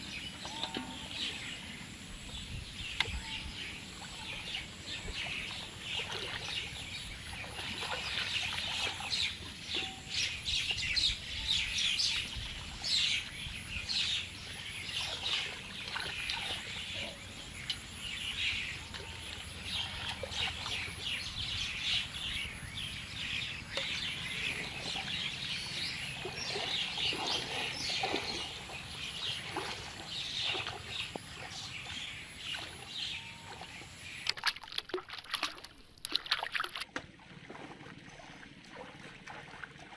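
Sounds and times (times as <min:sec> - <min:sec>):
water splashing and sloshing: 0:00.0 - 0:39.9.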